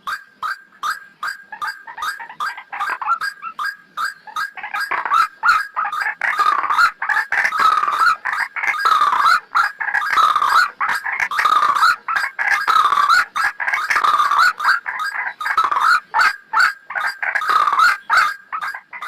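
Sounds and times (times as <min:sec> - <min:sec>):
waterhen croaking call: 0:00.0 - 0:19.0.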